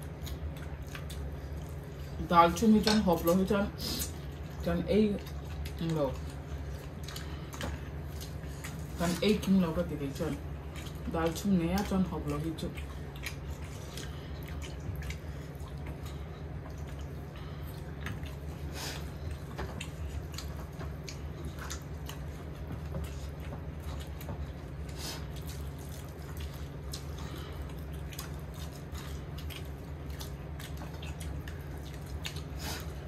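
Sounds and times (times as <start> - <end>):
people chewing: 0.0 - 33.0.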